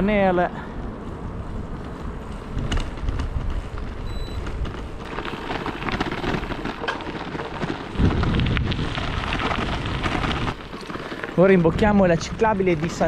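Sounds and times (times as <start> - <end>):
wind buffeting microphone: 0.0 - 13.0
tyres crunching on gravel: 1.2 - 13.0.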